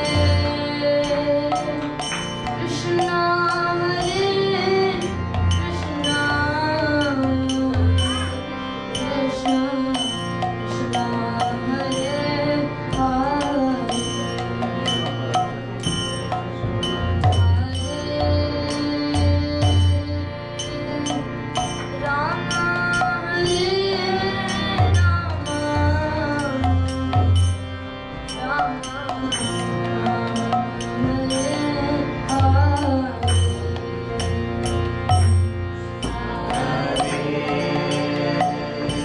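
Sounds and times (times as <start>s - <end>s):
sharp percussion strikes: 0.0s - 39.0s
steady drone: 0.0s - 39.0s.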